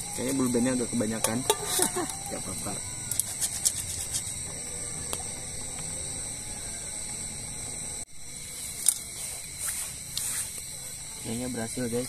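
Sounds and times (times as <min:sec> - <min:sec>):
camp stove hissing: 0:00.0 - 0:12.0
high insect drone: 0:00.0 - 0:12.0.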